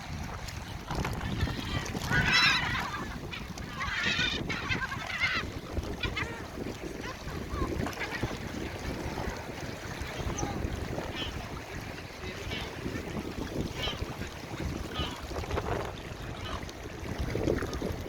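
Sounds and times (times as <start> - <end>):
water birds calling harshly: 0.0 - 18.0
wind rumble on microphone: 0.0 - 18.0.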